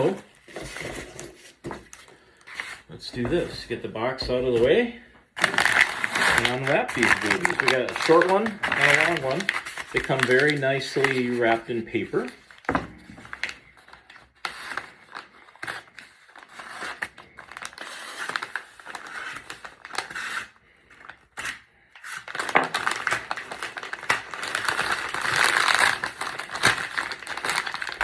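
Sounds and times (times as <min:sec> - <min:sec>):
wrapping paper crinkling and tearing: 0:00.0 - 0:02.8, 0:05.4 - 0:28.0.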